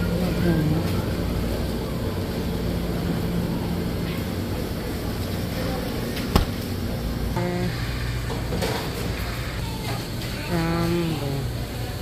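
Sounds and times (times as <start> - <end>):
supermarket background hum: 0.0 - 12.0.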